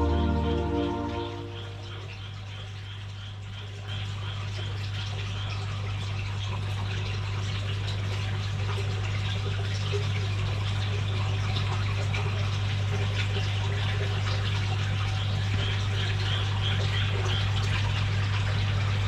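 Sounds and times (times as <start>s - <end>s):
water splashing and trickling: 2.8s - 19.0s.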